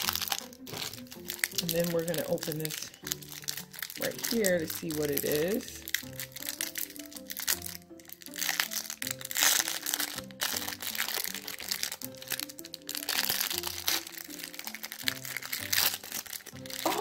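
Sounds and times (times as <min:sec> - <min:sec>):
background music: 0:00.0 - 0:17.0
plastic wrapper crinkling: 0:00.0 - 0:17.0.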